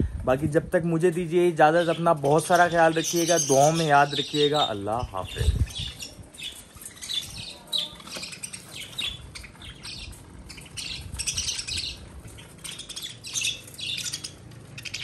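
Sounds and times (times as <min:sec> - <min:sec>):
budgerigars chirping: 0:01.6 - 0:15.0.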